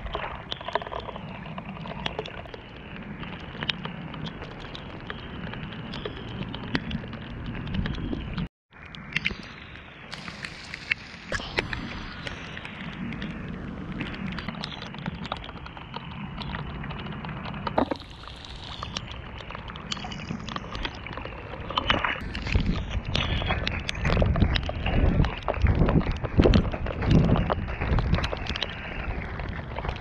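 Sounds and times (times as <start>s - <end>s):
inline skates rolling through mud: 0.0s - 30.0s
small clicks and ticks: 0.0s - 30.0s.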